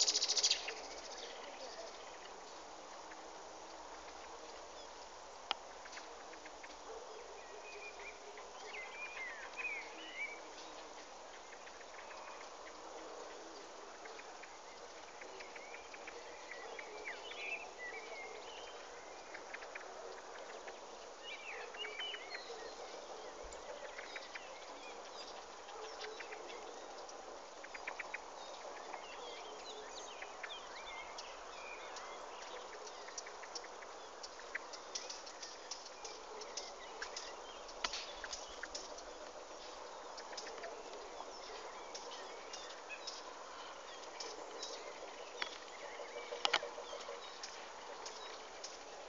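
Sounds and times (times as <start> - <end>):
small birds chirping: 0.0 - 49.0
steady background hiss: 0.0 - 49.0.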